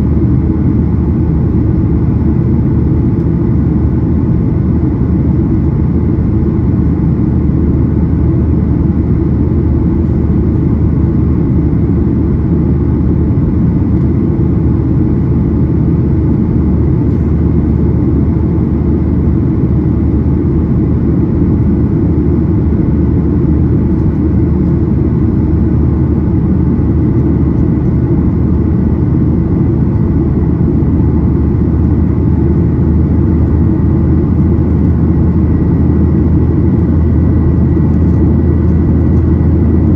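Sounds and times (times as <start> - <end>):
jet engine cabin roar: 0.0 - 39.9.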